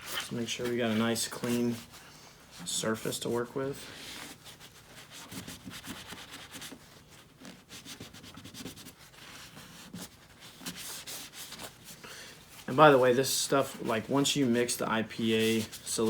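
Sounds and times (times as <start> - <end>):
cloth rag rubbing on metal panel: 0.0 - 16.0.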